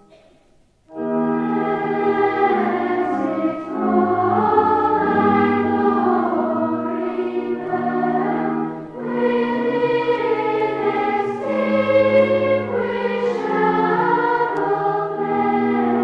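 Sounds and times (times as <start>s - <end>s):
choir singing held notes: 0.9s - 16.0s.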